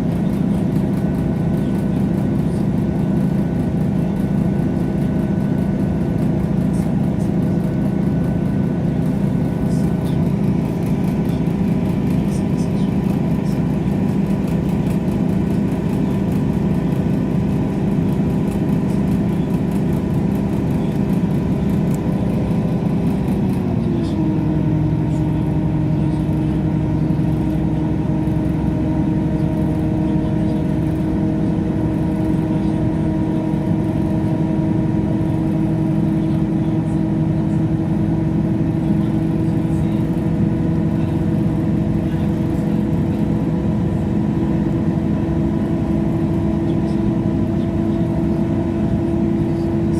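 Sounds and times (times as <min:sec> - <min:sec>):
train running drone: 0:00.0 - 0:49.9.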